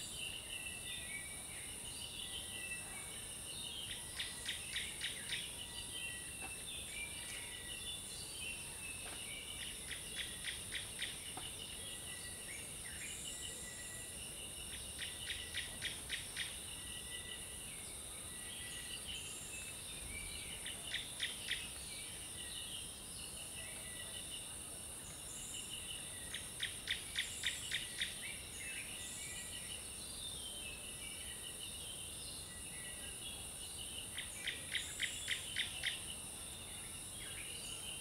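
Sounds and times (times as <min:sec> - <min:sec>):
insect drone: 0:00.0 - 0:38.0.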